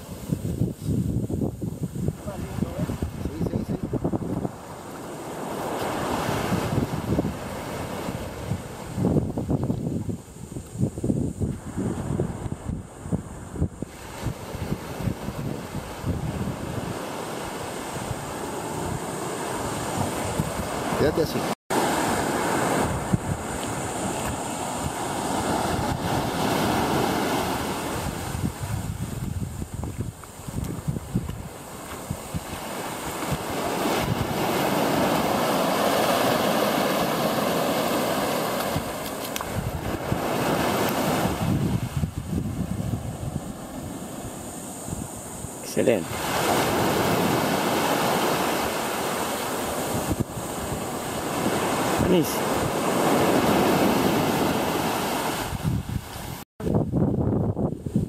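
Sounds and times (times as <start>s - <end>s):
waves washing up on sand: 0.0s - 57.0s
wind buffeting microphone: 0.0s - 58.0s.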